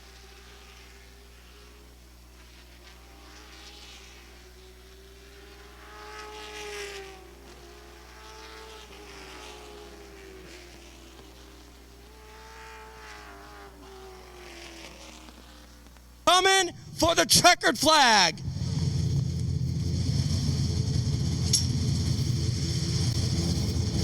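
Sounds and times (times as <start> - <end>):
race car engines passing: 0.1 - 1.9, 2.5 - 15.9, 18.0 - 24.0.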